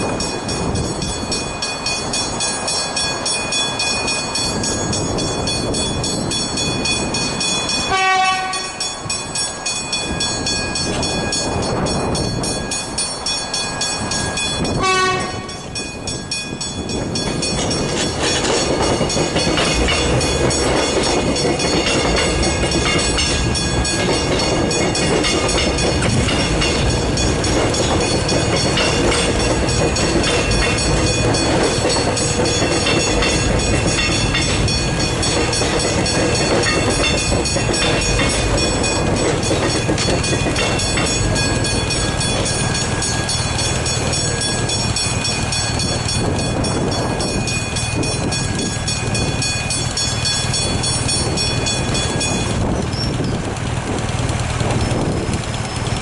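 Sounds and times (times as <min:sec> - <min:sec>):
crossing bells ringing: 0:00.0 - 0:56.0
train wheels clattering: 0:00.0 - 0:56.0.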